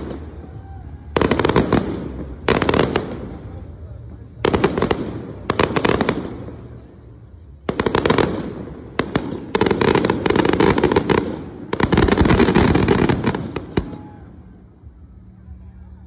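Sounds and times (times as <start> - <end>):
fireworks bangs and crackles: 0.0 - 15.4.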